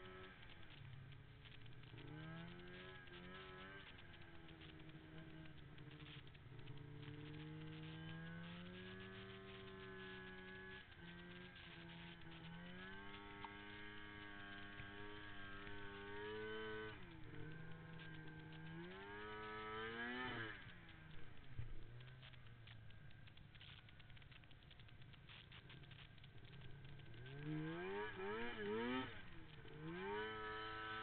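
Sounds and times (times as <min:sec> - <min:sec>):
snowmobile engine revving: 0:00.0 - 0:22.3, 0:25.3 - 0:31.0.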